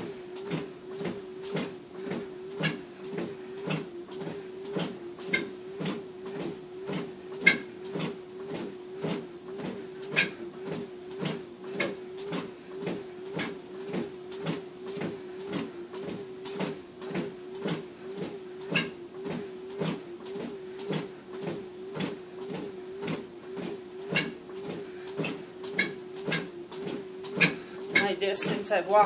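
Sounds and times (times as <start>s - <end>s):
footfalls on treadmill belt: 0.0s - 29.0s
treadmill motor hum: 0.0s - 29.0s.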